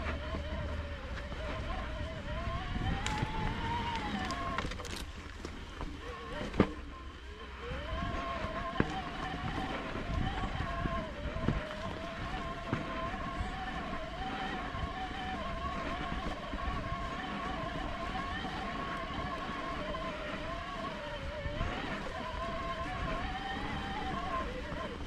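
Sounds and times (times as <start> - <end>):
electric bike motor whining: 0.0 - 25.0
tyres rumbling on rough trail: 0.0 - 25.0.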